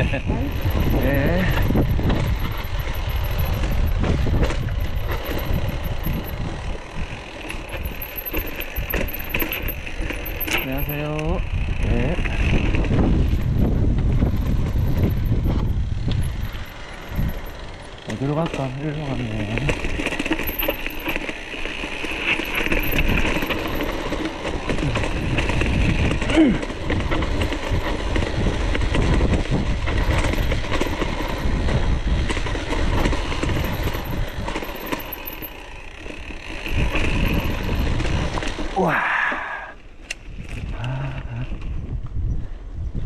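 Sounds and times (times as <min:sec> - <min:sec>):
wind buffeting microphone: 0:00.0 - 0:21.0, 0:21.6 - 0:35.6, 0:36.2 - 0:39.4, 0:40.1 - 0:43.0
bicycle tyre and road noise: 0:00.0 - 0:43.0
bike clicks and rattles: 0:00.0 - 0:43.0.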